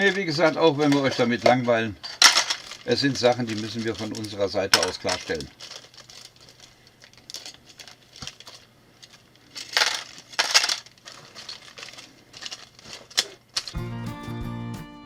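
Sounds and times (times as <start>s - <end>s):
plastic bricks clattering: 0.0s - 13.8s.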